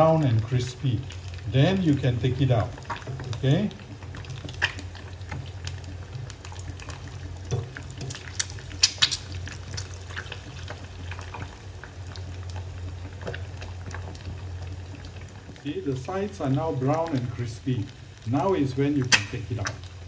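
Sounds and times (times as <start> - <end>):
egg sizzling in hot oil: 0.0 - 20.0
low steady hum: 0.0 - 20.0.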